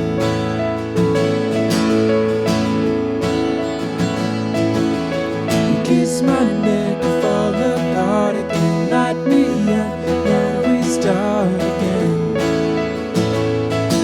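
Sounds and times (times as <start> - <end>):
strummed acoustic guitar: 0.0 - 14.0
wavering sliding melodic line: 0.0 - 14.0.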